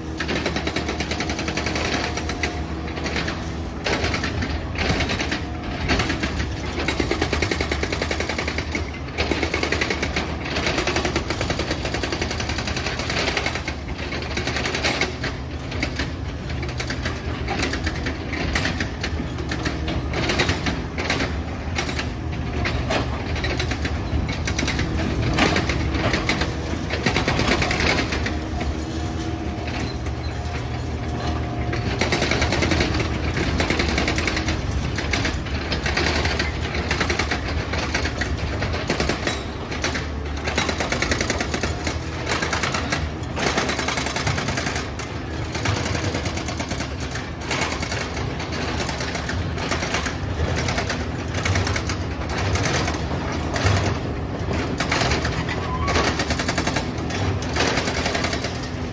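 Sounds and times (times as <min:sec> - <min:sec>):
demolition clattering and knocking: 0:00.0 - 0:58.9
excavator engine running: 0:00.0 - 0:58.9.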